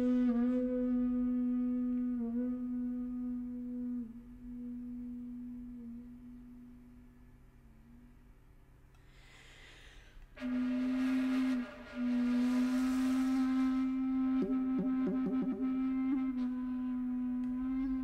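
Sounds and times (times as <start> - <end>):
solo flute long notes: 0.0 - 8.3, 10.4 - 18.0.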